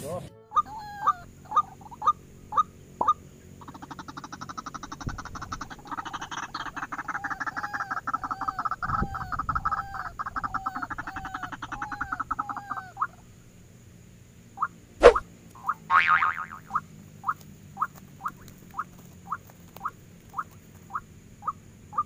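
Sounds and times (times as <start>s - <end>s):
waterhens calling: 0.0s - 13.4s, 14.6s - 22.0s.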